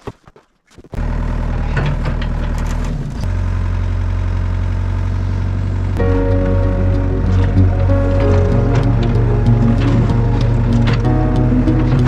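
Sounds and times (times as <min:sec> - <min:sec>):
excavator engine running: 0:01.0 - 0:12.0.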